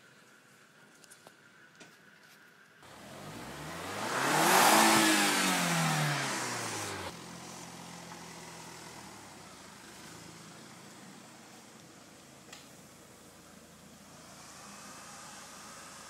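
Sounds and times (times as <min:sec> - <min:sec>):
car engine idling: 0:02.8 - 0:16.0
car engine starting and revving: 0:02.8 - 0:16.0.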